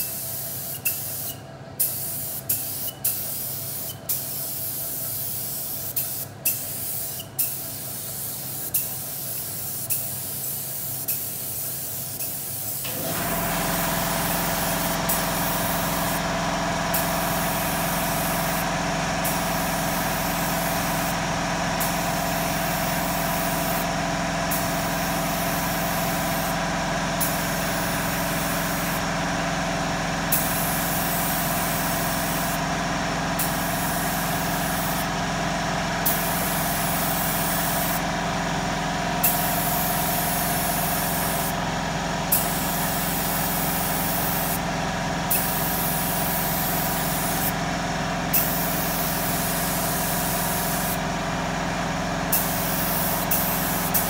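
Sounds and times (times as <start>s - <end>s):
spray gun hissing: 0.0s - 29.2s, 30.3s - 32.7s, 33.3s - 35.2s, 35.8s - 38.1s, 39.2s - 47.6s, 48.3s - 51.0s, 52.3s - 54.0s
air compressor motor hum: 0.0s - 54.0s.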